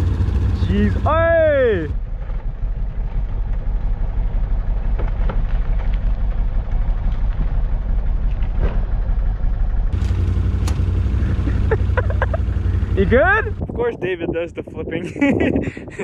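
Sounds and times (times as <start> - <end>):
atv engine idling: 0.0 - 13.6.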